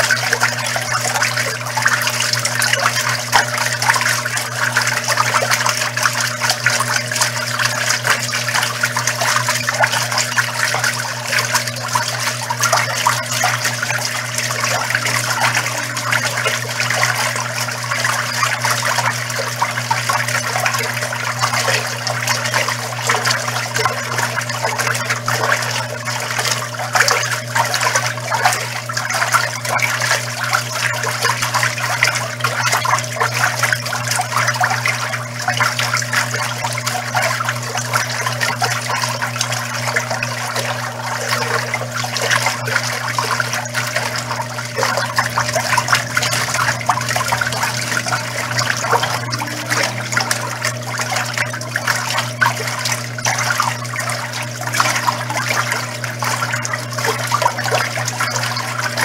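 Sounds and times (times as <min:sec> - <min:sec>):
swirling water in washer: 0:00.0 - 0:59.0
washing machine motor hum: 0:00.0 - 0:59.0.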